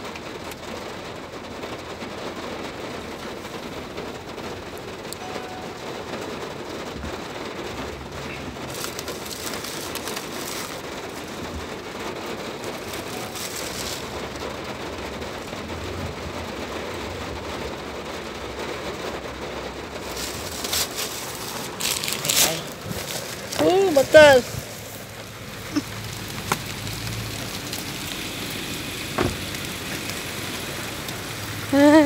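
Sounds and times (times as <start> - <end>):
rain on car roof: 0.0 - 32.0.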